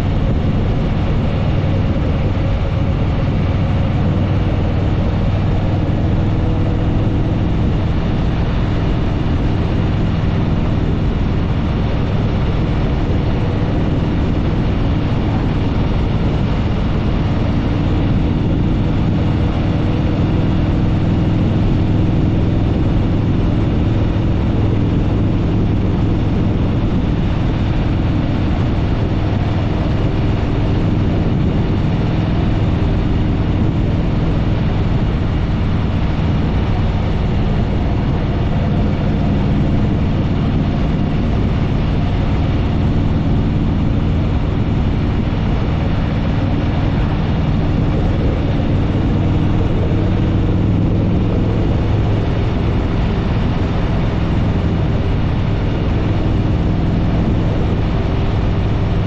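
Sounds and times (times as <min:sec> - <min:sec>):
motorcycle engine cruising: 0:00.0 - 0:59.0
road and wind noise: 0:00.0 - 0:59.0.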